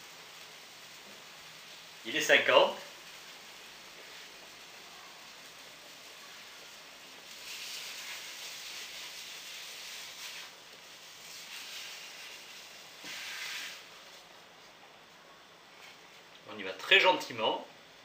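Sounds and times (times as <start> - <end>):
rice boiling with hiss: 0.0 - 18.0.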